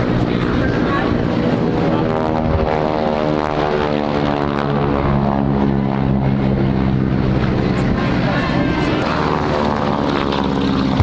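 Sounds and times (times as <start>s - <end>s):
propeller airplane passing by: 0.0s - 11.0s.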